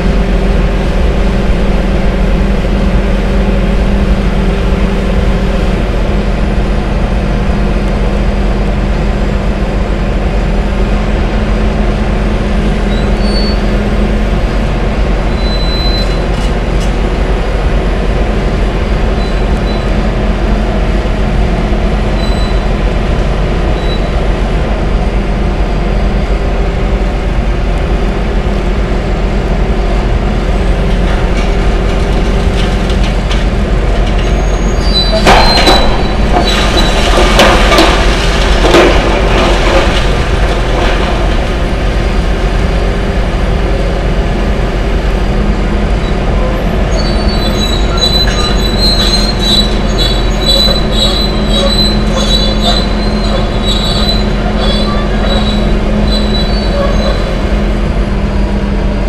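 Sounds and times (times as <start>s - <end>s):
excavator diesel engines droning: 0.0s - 59.0s.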